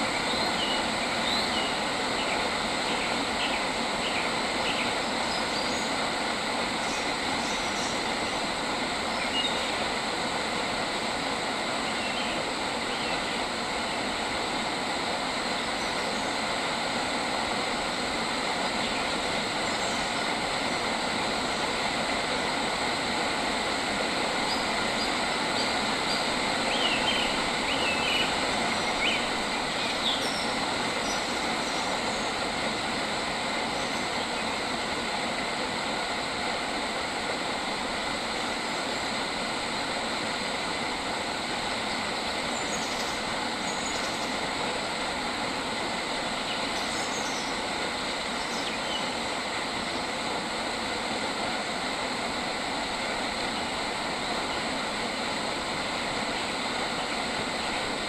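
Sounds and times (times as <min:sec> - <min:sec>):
dense outdoor ambience: 0:00.0 - 0:58.0.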